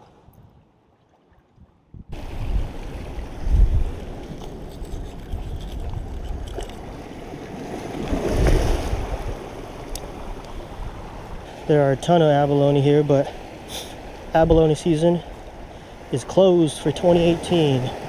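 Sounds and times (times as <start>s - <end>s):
wind gusting on microphone: 0.0s - 0.8s, 1.5s - 18.0s
surf washing around rocks: 2.2s - 18.0s.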